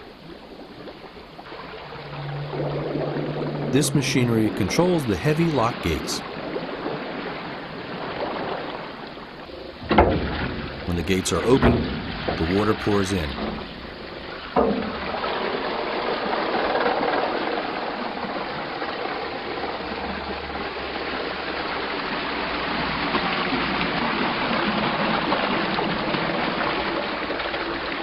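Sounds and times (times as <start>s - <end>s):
water pouring and rushing: 0.0s - 28.0s.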